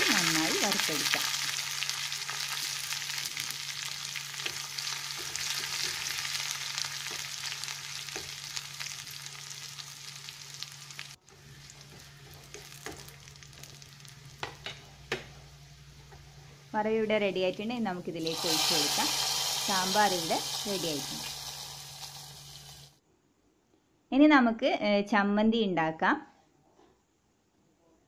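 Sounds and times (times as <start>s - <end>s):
spices sizzling in hot oil: 0.0s - 23.0s.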